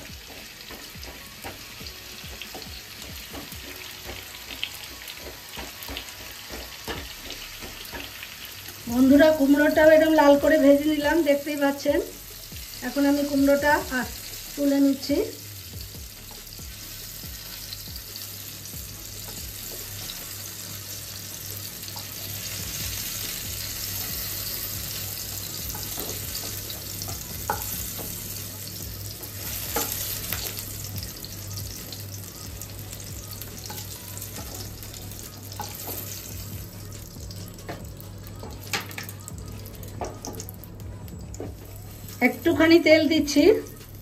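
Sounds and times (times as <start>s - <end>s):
food sizzling in hot oil: 0.0s - 44.0s.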